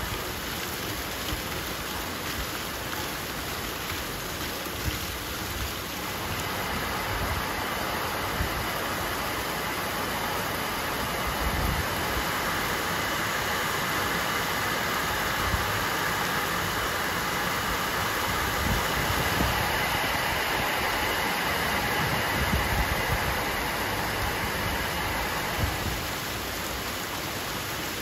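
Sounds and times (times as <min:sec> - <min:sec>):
heavy rain on pavement and cars: 0:00.0 - 0:28.0.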